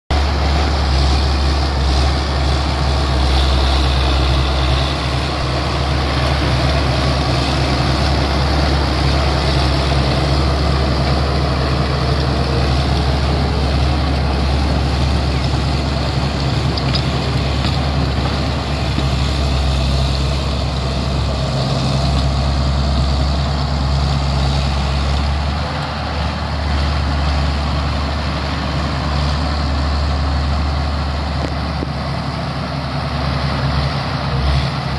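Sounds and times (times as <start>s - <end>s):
tiller dragging through dry soil: 0.1s - 34.9s
tractor engine running under load: 0.1s - 34.9s.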